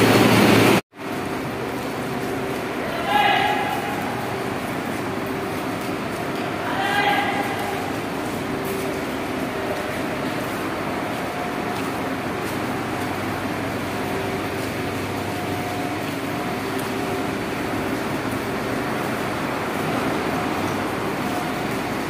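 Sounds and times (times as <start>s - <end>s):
ventilation and machinery drone: 0.0s - 22.0s.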